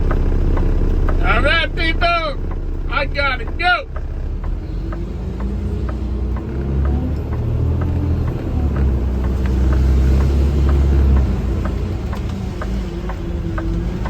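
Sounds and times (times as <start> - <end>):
light ticking: 0.0 - 14.0
vehicle engine and road rumble: 0.0 - 14.0.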